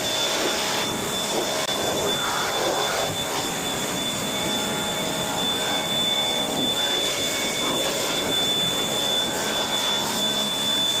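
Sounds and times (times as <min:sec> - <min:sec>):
thin high whine: 0:00.0 - 0:11.0.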